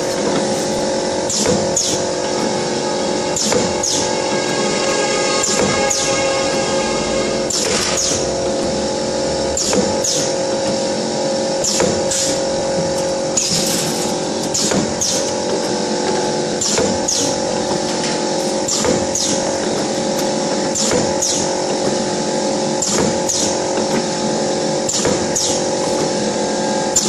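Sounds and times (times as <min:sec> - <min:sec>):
machine mechanical hum: 0:00.0 - 0:27.0.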